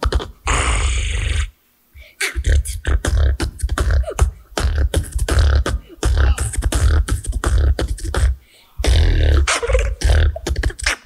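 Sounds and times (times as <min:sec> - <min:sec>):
beatboxing into a microphone: 0:00.0 - 0:11.0.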